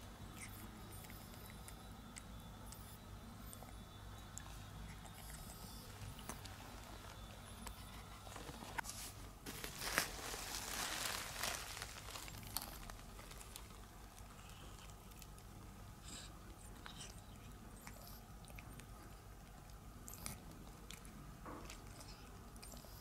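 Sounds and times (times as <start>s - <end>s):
cat chewing and licking: 0.0s - 8.8s, 12.1s - 23.0s.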